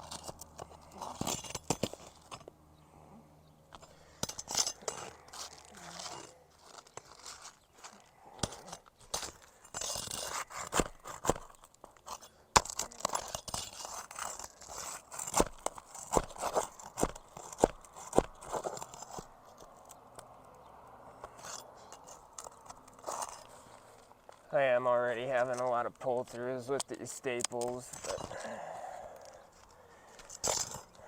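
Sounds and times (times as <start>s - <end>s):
roof shingles crackling and scraping: 0.0s - 2.6s, 3.7s - 31.0s.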